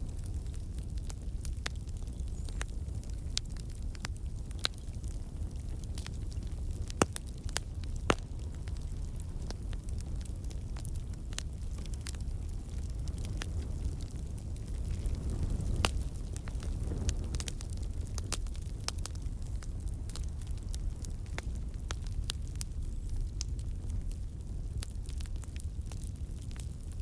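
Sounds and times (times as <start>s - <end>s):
low rumble of flames: 0.0s - 27.0s
wood popping and crackling: 0.0s - 27.0s.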